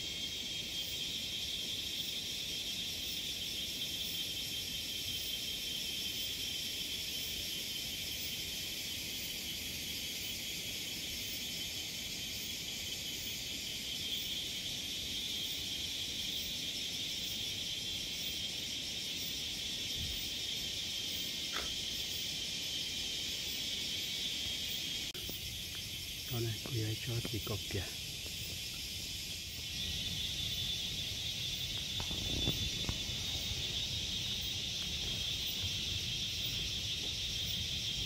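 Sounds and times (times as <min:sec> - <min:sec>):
insects buzzing: 0:00.0 - 0:38.0.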